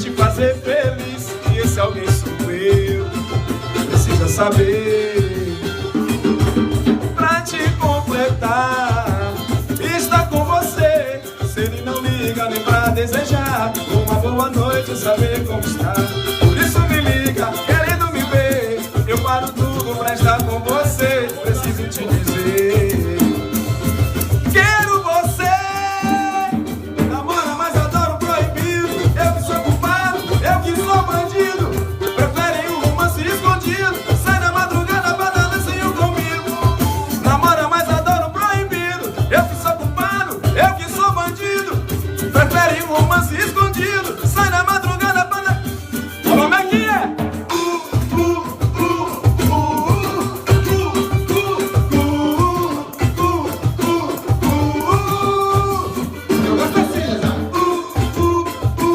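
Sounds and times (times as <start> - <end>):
person singing: 0.0 - 6.4, 7.1 - 58.9
cavaquinho: 0.0 - 58.9
live band playing: 0.0 - 58.9.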